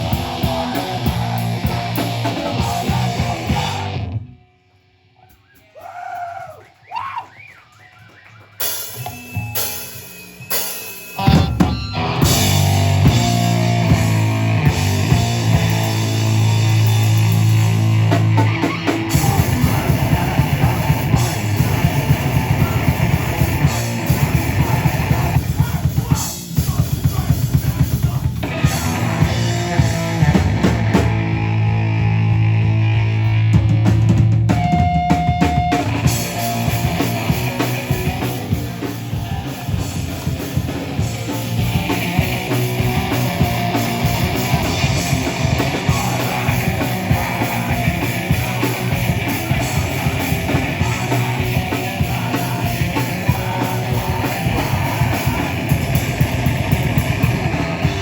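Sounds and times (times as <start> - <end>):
drum kit: 0.0 - 4.3, 8.6 - 58.0
distorted electric guitars: 0.0 - 5.4, 7.4 - 58.0
heavy rock band playing: 0.0 - 5.4, 8.6 - 58.0.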